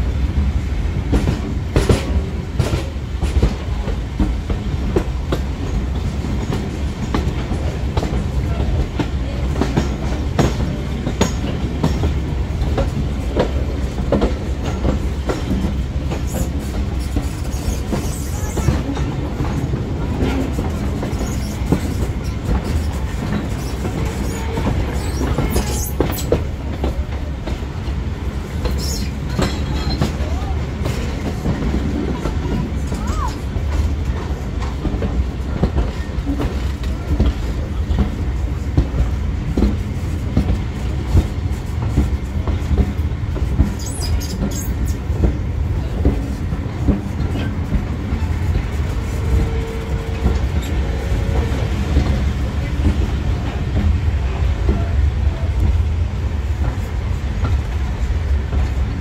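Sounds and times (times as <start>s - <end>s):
train rumbling: 0.0s - 59.0s
wheels clicking over rail joints: 1.1s - 54.0s.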